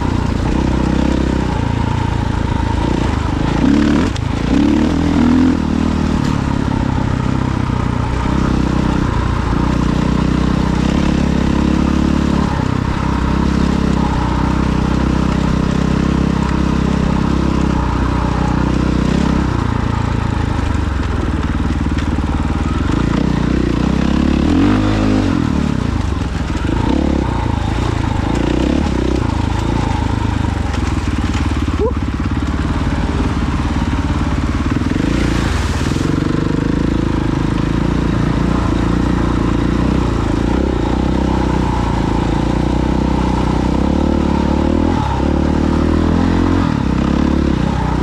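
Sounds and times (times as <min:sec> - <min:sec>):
off-road vehicle engine revving: 0:00.0 - 0:48.0.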